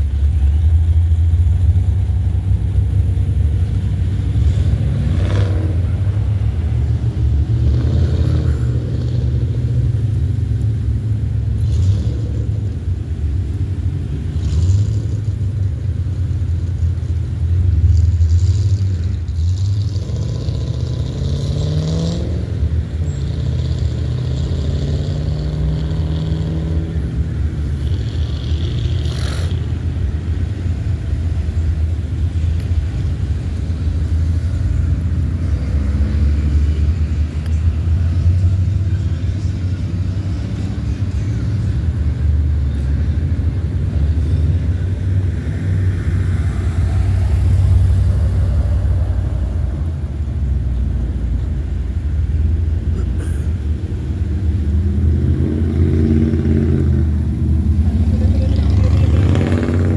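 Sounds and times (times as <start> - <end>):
engine revving: 0.0 - 51.4, 52.0 - 59.9
traffic rumbling past: 0.0 - 59.9.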